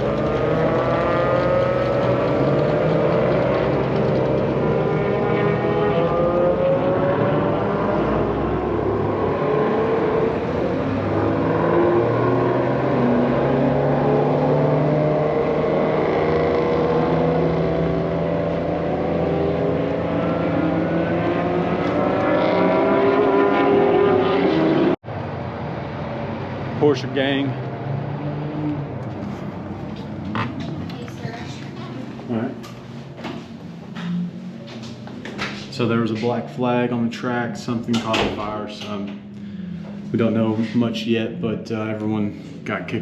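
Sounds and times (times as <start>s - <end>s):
race car engines passing: 0.0s - 43.0s.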